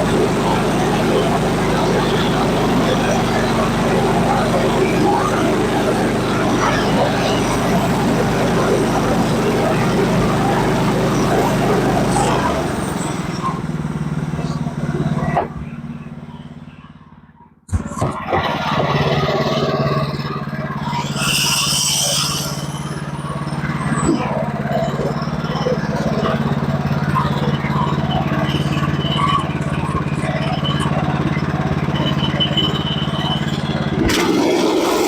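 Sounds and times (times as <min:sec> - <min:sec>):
saw cutting through log: 0:00.0 - 0:15.5, 0:18.0 - 0:35.0
sawmill engine running: 0:00.0 - 0:35.0.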